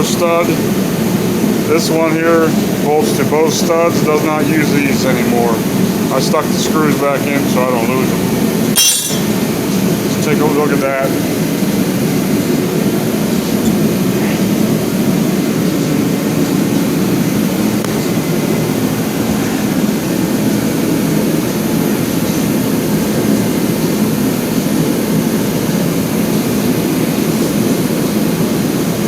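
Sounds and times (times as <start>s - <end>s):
shop heater rushing: 0.0s - 29.0s.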